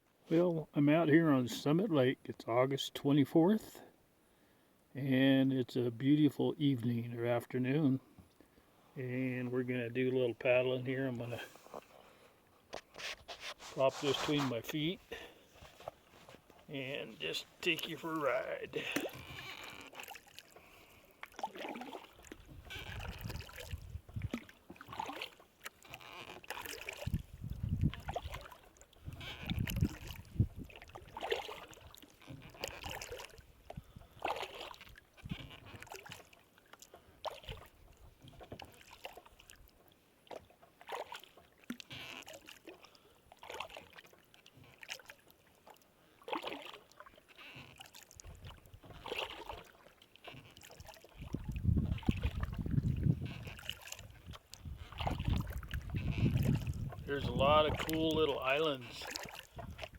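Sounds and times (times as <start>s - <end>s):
water lapping at hull: 5.9s - 59.9s
kayak paddle splashing: 8.2s - 59.9s.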